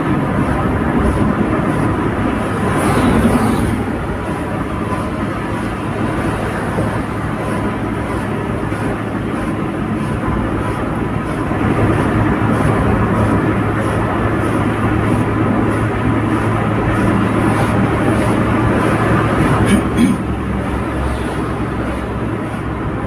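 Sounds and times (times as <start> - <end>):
car engine hum: 0.0 - 23.0.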